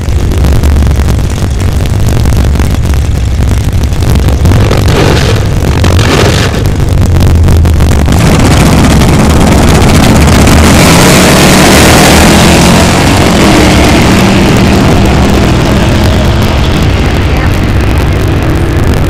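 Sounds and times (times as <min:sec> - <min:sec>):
drag cars accelerating: 0:00.0 - 0:19.0.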